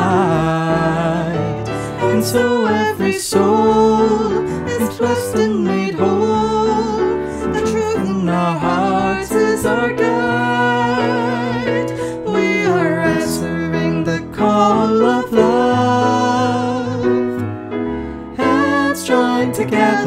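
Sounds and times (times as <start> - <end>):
voices singing a hymn: 0.0 - 17.4, 18.3 - 20.0
grand piano accompaniment: 0.0 - 20.0.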